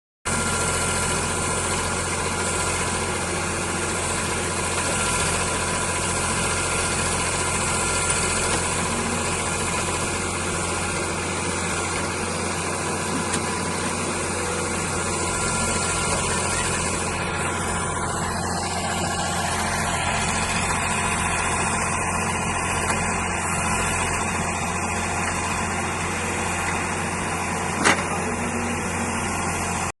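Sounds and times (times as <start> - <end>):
heavy diesel engine running: 0.3 - 29.9.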